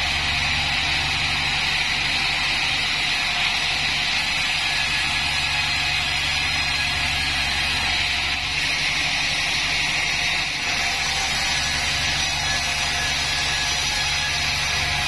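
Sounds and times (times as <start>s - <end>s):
band saw cutting wood: 0.0s - 15.0s.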